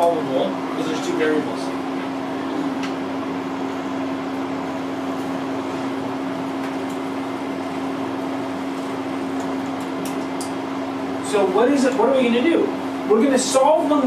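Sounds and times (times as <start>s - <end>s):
mechanical room hum: 0.0s - 14.0s.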